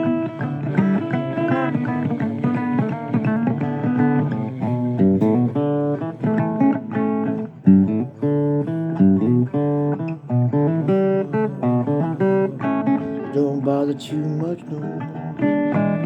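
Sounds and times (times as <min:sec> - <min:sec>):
blues guitar playing: 0:00.0 - 0:16.0.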